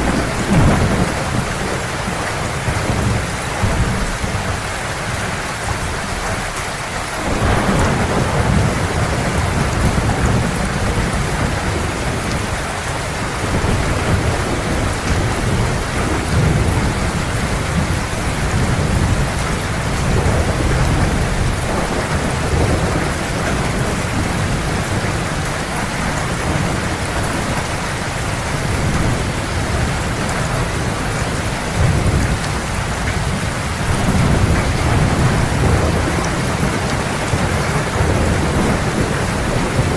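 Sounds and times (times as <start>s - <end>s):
deep thunder rumbling: 0.0s - 39.9s
heavy rain falling: 0.0s - 39.9s.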